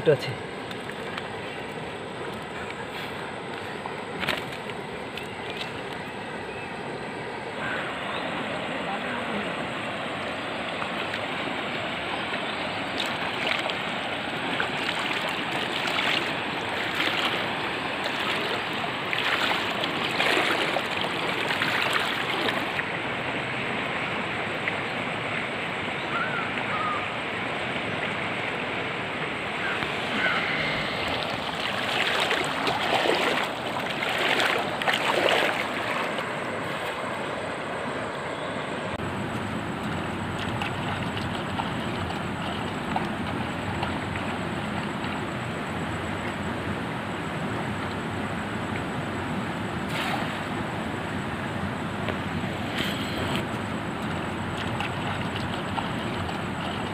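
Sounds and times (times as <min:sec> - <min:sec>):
water splashing: 0:00.0 - 0:06.5, 0:07.6 - 0:25.8, 0:26.6 - 0:37.5, 0:39.0 - 0:46.5, 0:49.8 - 0:51.0, 0:52.1 - 0:56.9
river water flowing: 0:00.0 - 0:56.9.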